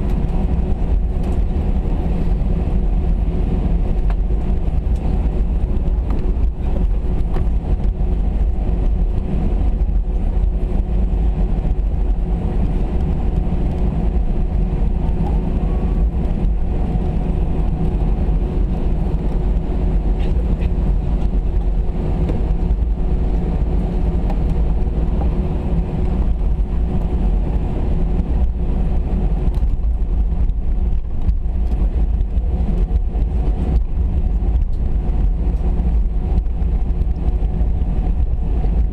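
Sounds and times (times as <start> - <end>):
airplane cabin rumble: 0.0 - 38.9
constant cabin hum: 0.0 - 38.9.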